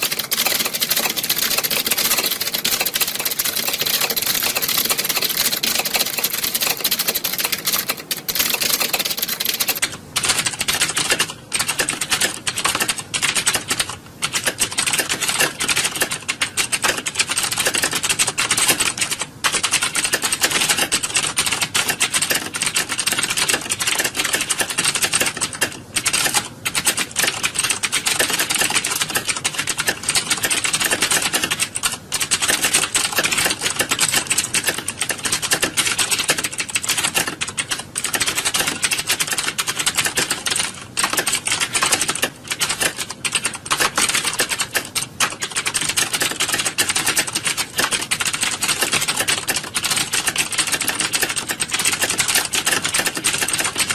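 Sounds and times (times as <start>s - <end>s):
keyboards typing clatter: 0.0s - 53.9s.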